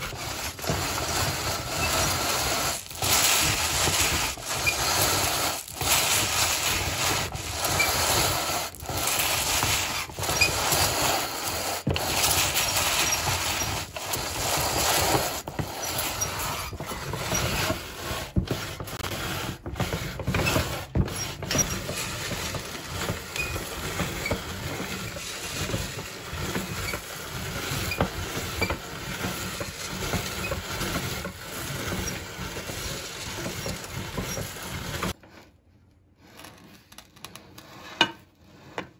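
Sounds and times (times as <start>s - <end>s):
grinder crunching cereal: 0.0s - 35.3s.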